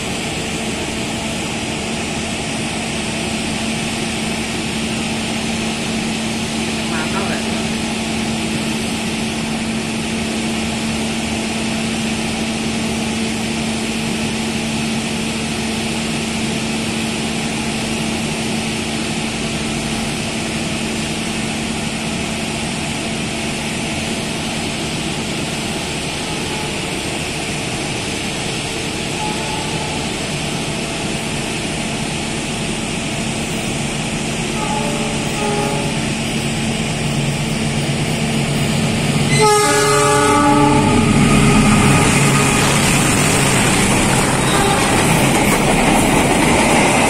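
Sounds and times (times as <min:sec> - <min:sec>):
train diesel engine idling: 0:00.0 - 0:47.0.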